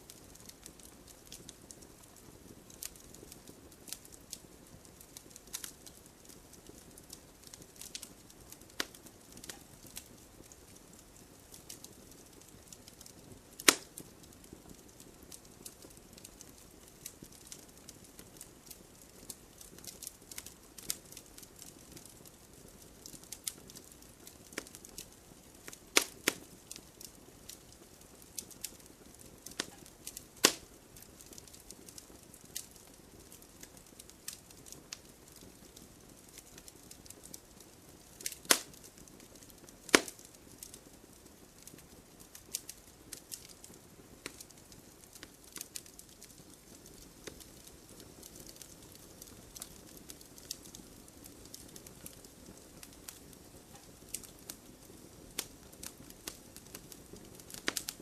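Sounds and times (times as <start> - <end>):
campfire crackling: 0.0 - 58.0
fire popping and snapping: 0.0 - 58.0
soft low hiss: 0.0 - 58.0.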